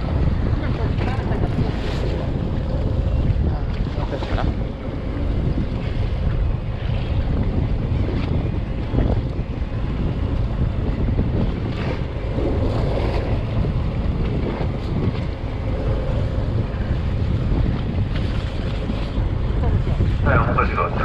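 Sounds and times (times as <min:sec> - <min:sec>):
waves washing against hull: 0:00.0 - 0:21.0
wind buffeting microphone: 0:00.0 - 0:21.0.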